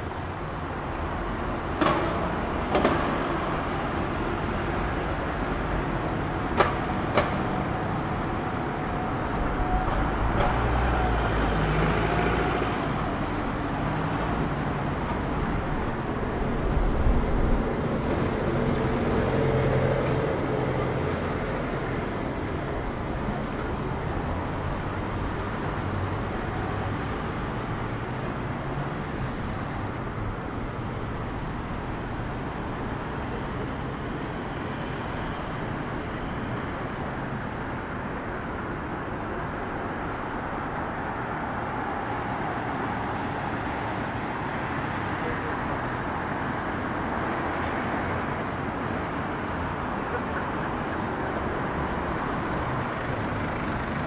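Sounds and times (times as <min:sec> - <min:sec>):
city road traffic: 0:00.0 - 0:54.0.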